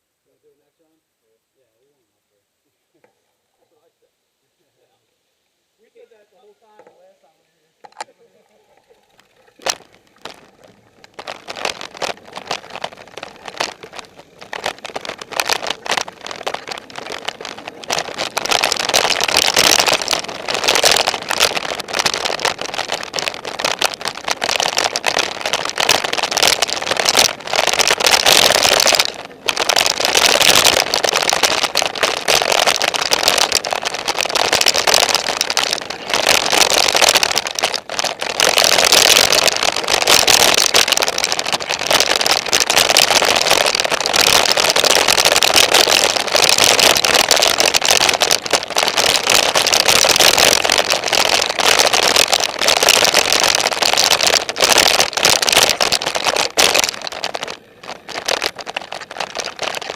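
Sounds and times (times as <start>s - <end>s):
bike rattling over rocky trail: 9.6s - 59.9s
wind rushing over camera: 9.6s - 59.9s.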